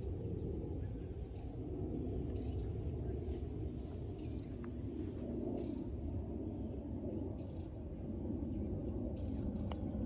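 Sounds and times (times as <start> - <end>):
faint bird chirps: 0.0 - 9.9
high insect drone: 0.0 - 10.0
low steady rumble: 0.0 - 10.0.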